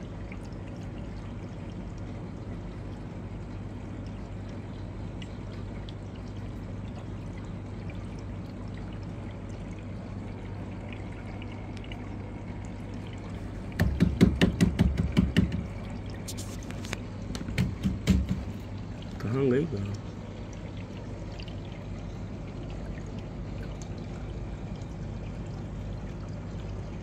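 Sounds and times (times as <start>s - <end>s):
aquarium air bubbles: 0.0s - 27.0s
low steady hum: 0.0s - 27.0s.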